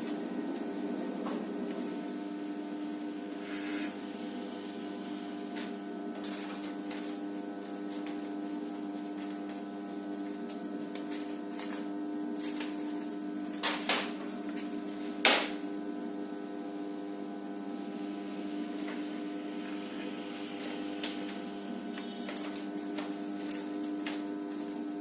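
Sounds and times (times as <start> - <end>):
band sealer motor hum: 0.0 - 25.0.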